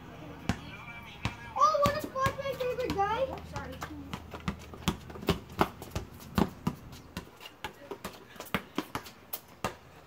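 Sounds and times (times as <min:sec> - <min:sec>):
basketball bouncing on asphalt: 0:00.4 - 0:10.0
sneakers slapping and scuffing: 0:01.6 - 0:10.0.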